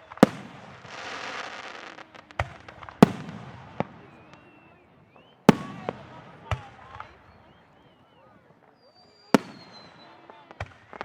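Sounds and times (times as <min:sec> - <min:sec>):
firework bangs: 0:00.0 - 0:11.0
fireworks crackling hiss: 0:00.0 - 0:11.0.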